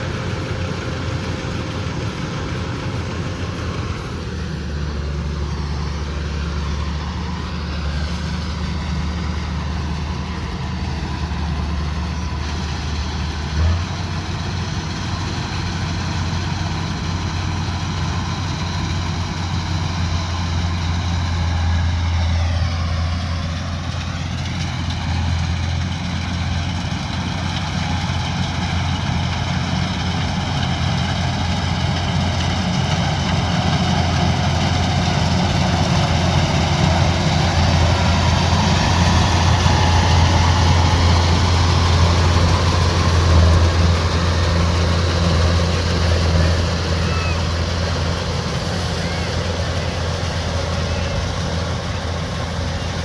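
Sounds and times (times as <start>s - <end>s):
combine harvester engine hum: 0.0s - 53.0s.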